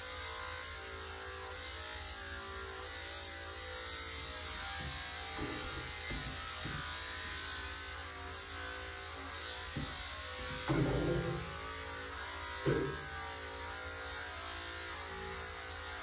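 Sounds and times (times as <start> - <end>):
electric clippers buzzing: 0.0 - 16.0.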